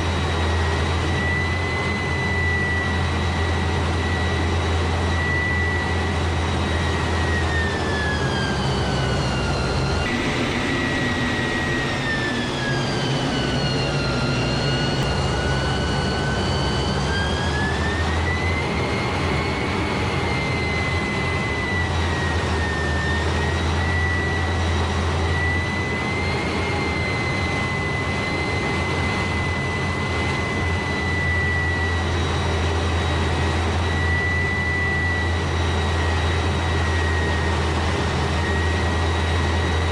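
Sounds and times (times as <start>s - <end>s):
high propeller tone: 0.0s - 39.9s
turboprop engines running: 0.0s - 39.9s.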